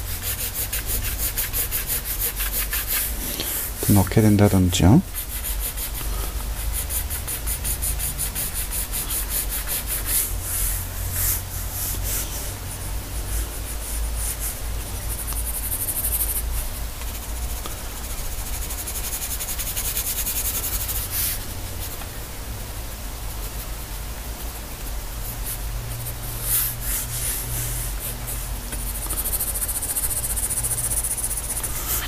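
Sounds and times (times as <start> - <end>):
pencil scratching on paper: 0.0 - 22.0, 25.2 - 32.0.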